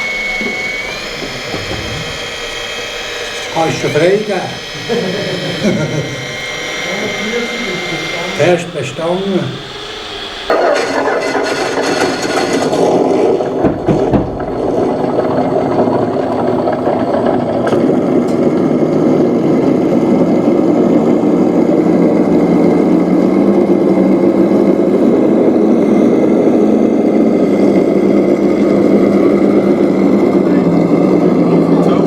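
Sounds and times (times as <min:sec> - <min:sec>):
model vehicle motor drone: 0:00.0 - 0:32.0.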